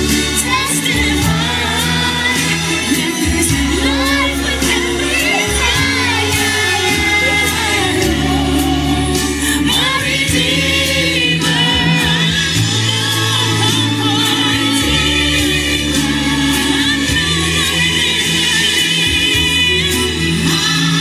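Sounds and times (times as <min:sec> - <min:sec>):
gospel singing voices: 0:00.0 - 0:21.0
held bass notes: 0:00.0 - 0:21.0
steady drum beat: 0:00.0 - 0:21.0.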